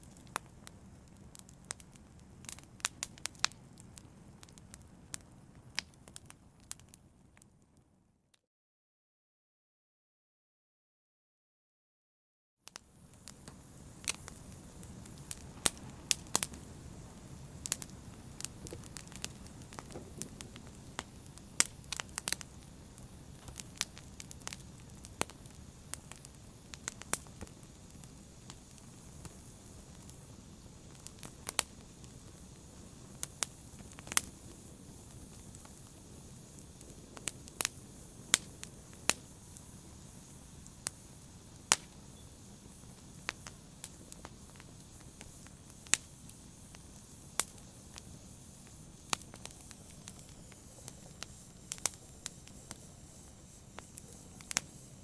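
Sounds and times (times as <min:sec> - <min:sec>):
wood fire crackling: 0:00.0 - 0:07.8, 0:12.7 - 0:55.0.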